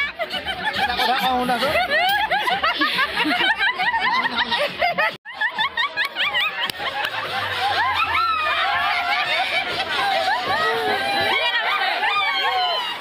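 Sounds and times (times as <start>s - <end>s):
crowd laughing and shouting: 0.0s - 13.0s.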